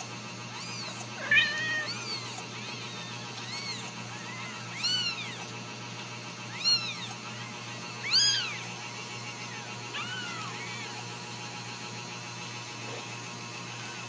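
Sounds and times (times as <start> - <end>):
kittens mewing: 0.0 - 12.0
steady low hum: 0.0 - 14.0.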